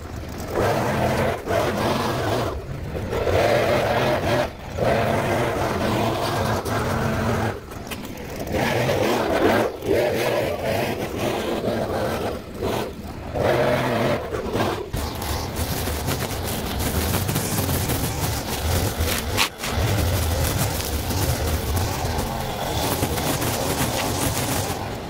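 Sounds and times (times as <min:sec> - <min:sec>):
brushcutter engine revving: 0:00.0 - 0:25.0.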